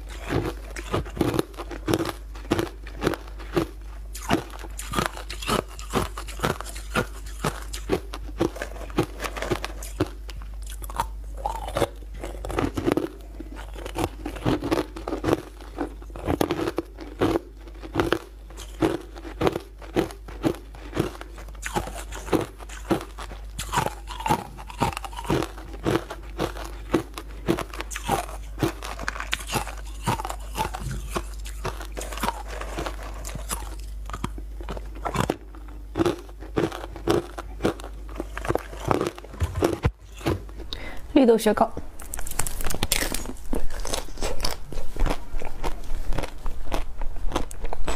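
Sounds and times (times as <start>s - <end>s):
crunching frozen chunks: 0.0s - 41.0s, 42.0s - 47.9s
wet chewing: 0.0s - 41.0s, 42.0s - 47.9s.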